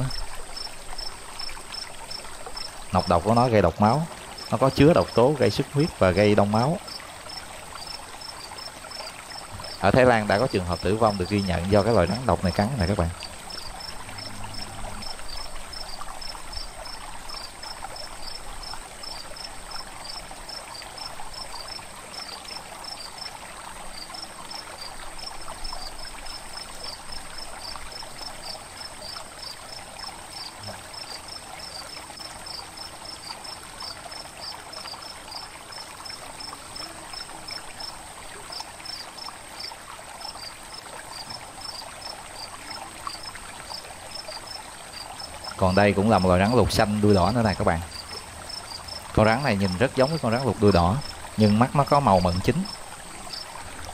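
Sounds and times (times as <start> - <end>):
cricket chirping: 0.0 - 5.6, 6.5 - 53.9.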